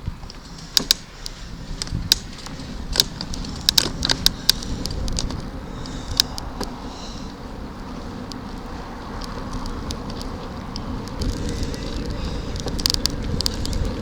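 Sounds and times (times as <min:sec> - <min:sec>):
bicycle clicks and rattles: 0:00.0 - 0:14.0
bicycle tyres rumbling: 0:00.0 - 0:14.0.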